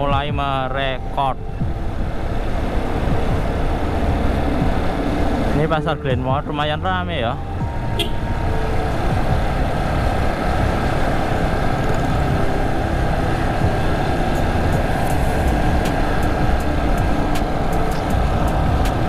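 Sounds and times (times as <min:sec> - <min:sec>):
vehicle driving on road: 0:00.0 - 0:19.0.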